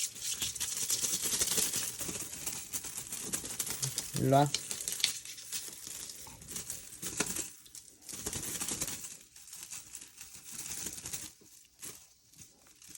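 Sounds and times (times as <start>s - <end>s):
plastic or paper crinkling: 0.0s - 12.9s.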